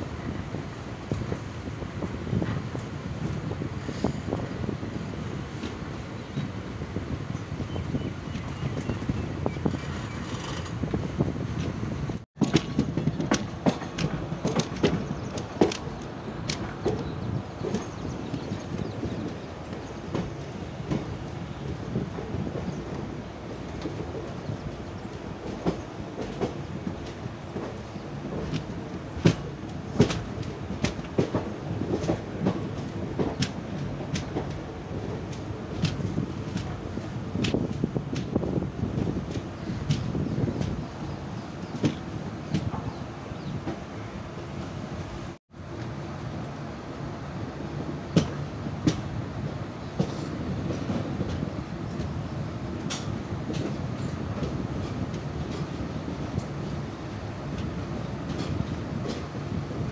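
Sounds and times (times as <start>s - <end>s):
train rumbling: 0.0s - 59.9s
train wheels clicking over rail joints: 0.3s - 11.8s, 12.4s - 46.6s, 47.2s - 59.9s.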